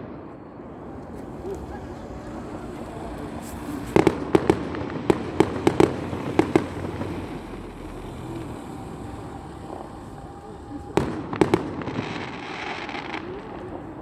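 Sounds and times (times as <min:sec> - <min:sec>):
fireworks bangs and cracks: 0:00.0 - 0:14.0
steady background noise: 0:00.3 - 0:14.0.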